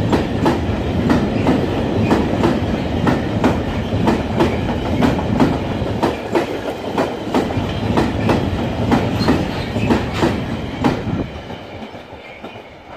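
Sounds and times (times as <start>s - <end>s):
train rumble: 0.0s - 12.9s
train wheels clacking over rail joints: 0.0s - 12.9s.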